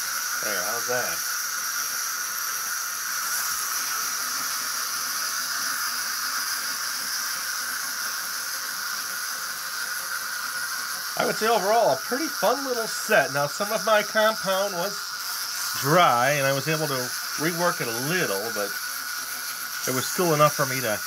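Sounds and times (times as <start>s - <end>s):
clockwork toys whirring: 0.0s - 21.0s.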